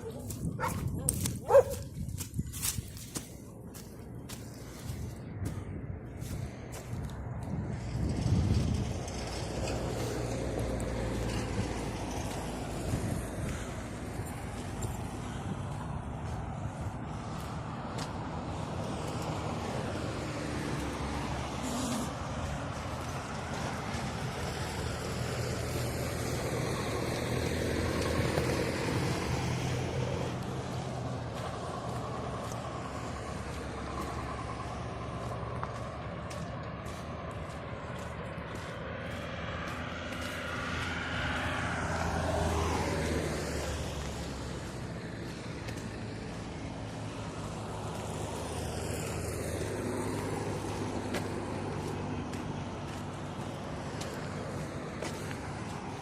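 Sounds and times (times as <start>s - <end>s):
vehicle passing by: 0.0s - 56.0s.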